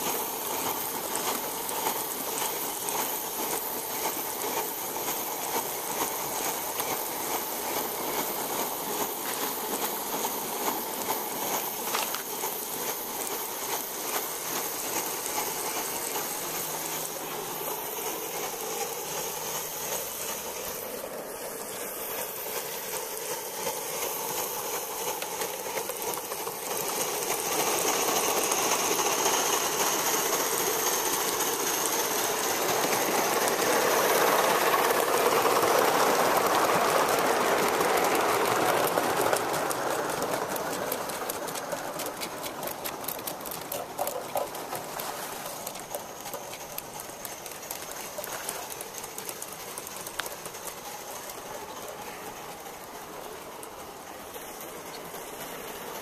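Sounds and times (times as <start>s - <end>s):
model steam locomotives running: 0.0s - 56.0s
steam hissing: 0.0s - 56.0s.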